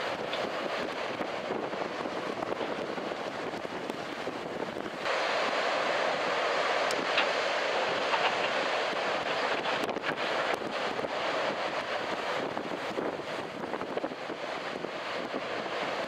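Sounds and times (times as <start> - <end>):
breaking surf: 0.0 - 16.0
wind rushing over microphone: 0.0 - 16.0.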